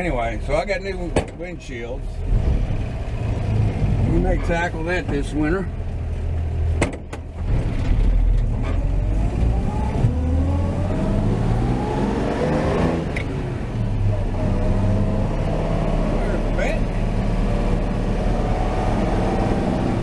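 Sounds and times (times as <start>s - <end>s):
truck engine pulling: 0.0s - 20.0s.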